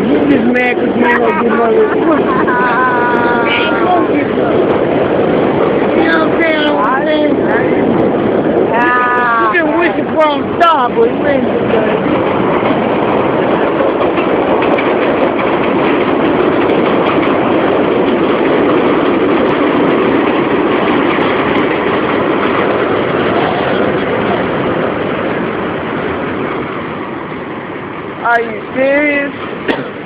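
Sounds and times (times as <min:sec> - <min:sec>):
passing train rushing: 0:00.0 - 0:30.0.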